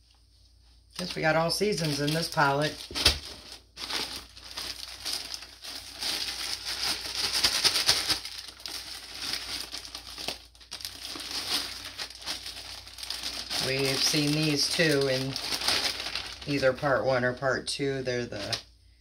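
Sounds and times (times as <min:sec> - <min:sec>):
plastic bag crinkling: 0:00.9 - 0:17.4, 0:18.2 - 0:18.6.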